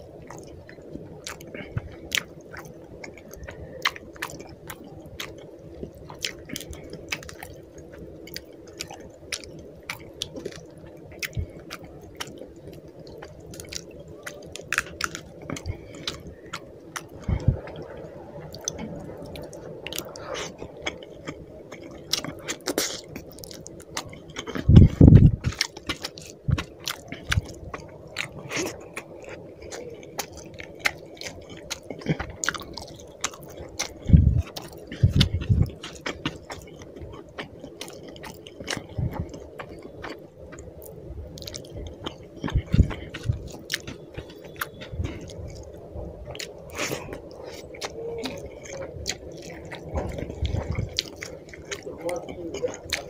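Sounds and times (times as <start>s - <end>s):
wet chewing and lip-smacking: 0.0s - 53.0s.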